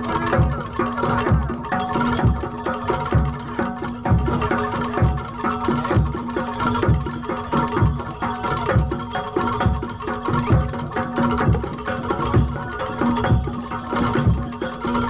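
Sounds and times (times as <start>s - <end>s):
deep drum beats: 0.0s - 15.0s
hand drums playing: 0.0s - 15.0s
ringing metallic tones: 0.0s - 15.0s.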